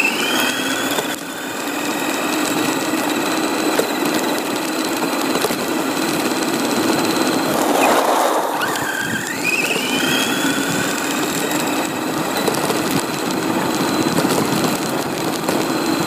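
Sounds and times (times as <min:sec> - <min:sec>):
toy car electric motor whining: 0:00.0 - 0:16.0.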